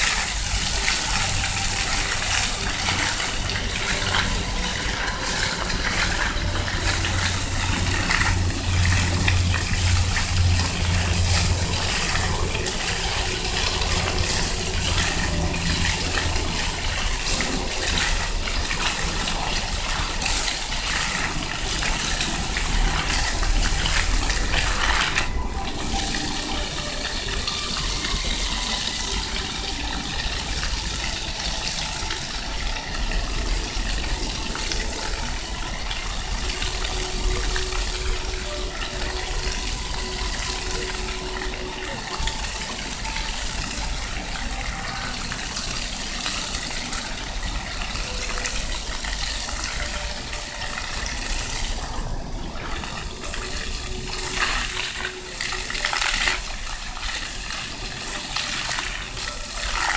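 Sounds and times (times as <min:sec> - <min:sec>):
fountain jets splashing on paving: 0:00.0 - 0:59.9.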